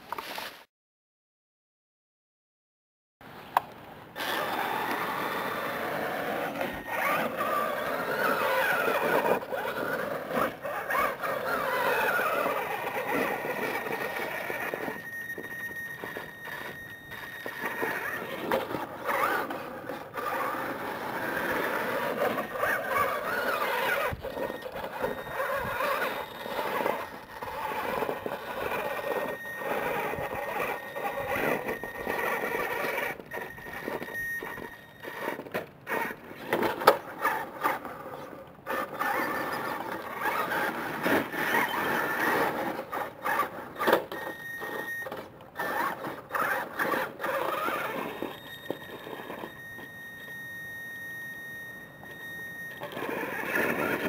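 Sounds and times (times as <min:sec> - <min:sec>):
electric motors whining: 0:04.2 - 0:54.0.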